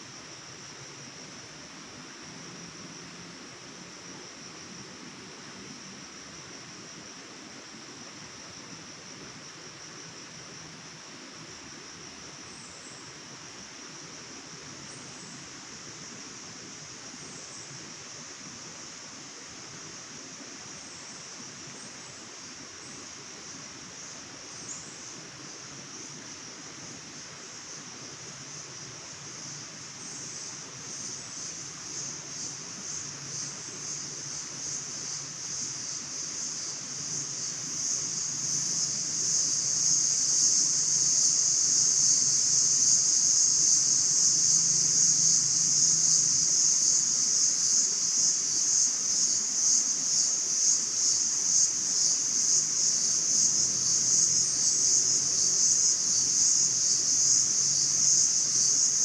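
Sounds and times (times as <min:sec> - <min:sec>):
high-pitched insect chorus: 0:00.0 - 0:59.0
soft hiss: 0:00.0 - 0:59.0.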